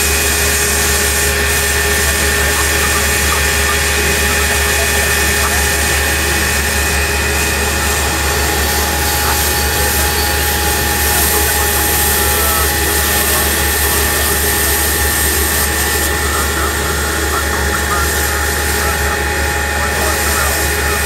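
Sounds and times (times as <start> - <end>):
fire engine pump drone: 0.0 - 21.0.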